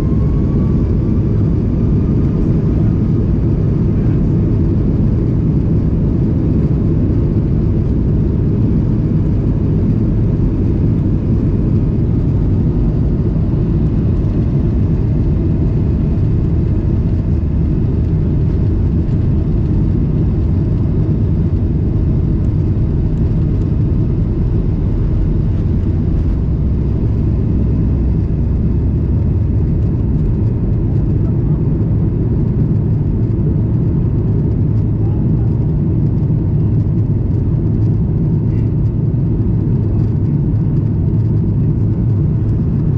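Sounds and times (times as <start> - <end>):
jet engine roar in cabin: 0.0 - 42.9.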